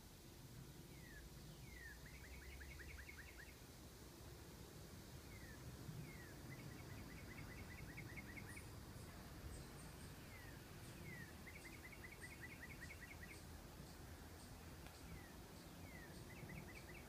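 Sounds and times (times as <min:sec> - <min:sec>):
songbird singing faintly: 0:00.0 - 0:17.0.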